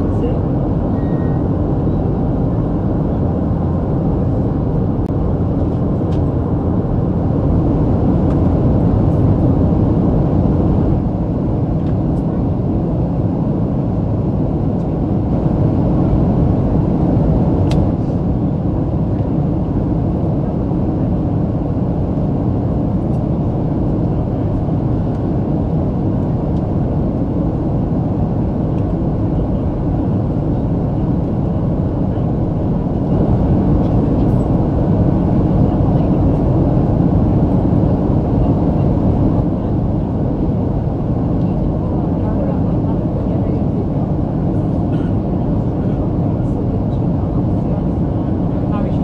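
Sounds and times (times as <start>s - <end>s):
jet engine cabin roar: 0.0s - 49.0s.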